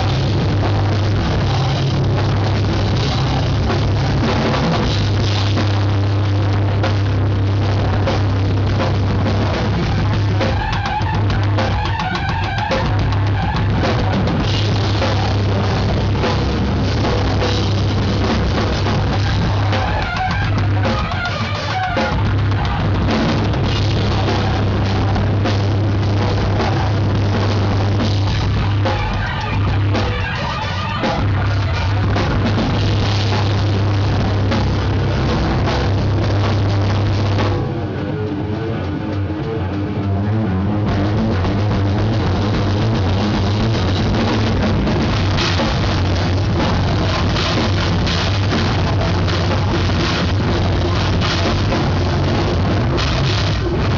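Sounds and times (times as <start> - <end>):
drums: 0.0 - 53.9
live rock band playing: 0.0 - 53.9.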